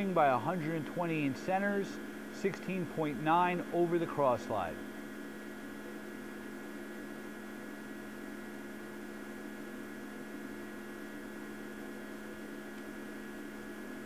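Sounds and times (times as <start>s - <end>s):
electrical hum with faint hiss: 0.0s - 14.0s.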